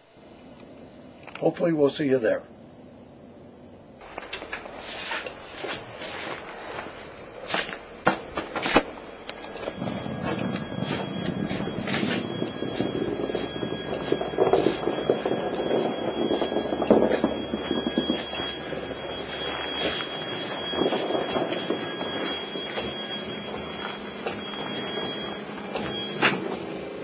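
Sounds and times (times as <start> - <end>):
electric vehicle whine: 2.5 - 27.0
tyres crunching through snow: 4.0 - 27.0.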